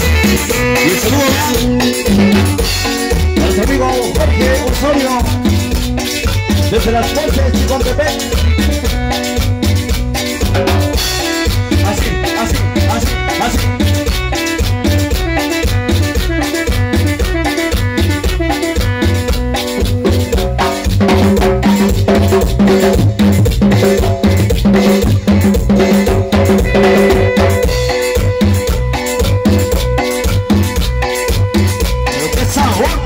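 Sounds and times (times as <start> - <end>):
drum beat and percussion: 0.0 - 33.0
held keyboard chords: 0.0 - 33.0
keyboard playing: 0.0 - 33.0.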